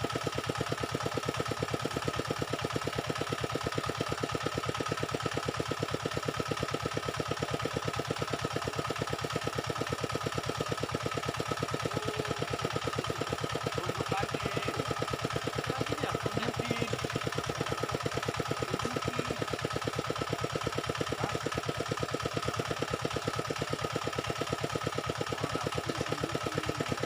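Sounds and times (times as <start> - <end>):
small engine idling: 0.0 - 27.0.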